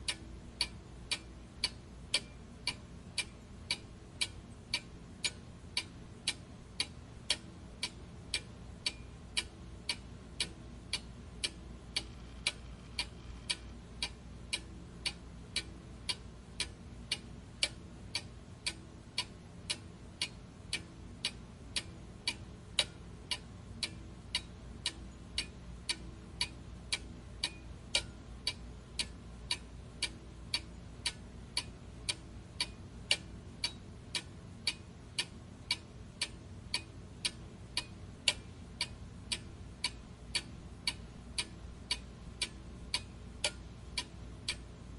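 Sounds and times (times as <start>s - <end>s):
steady ticking: 0.0s - 44.9s.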